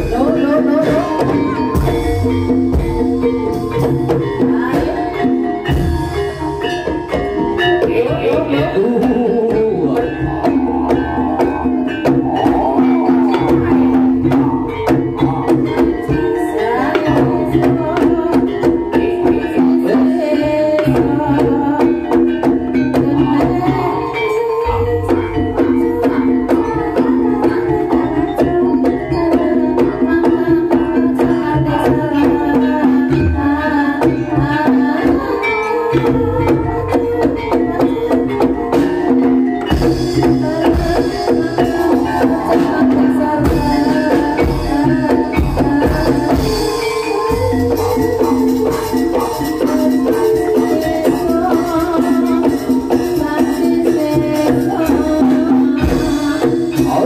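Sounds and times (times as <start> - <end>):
gamelan music over loudspeakers: 0.0 - 57.0.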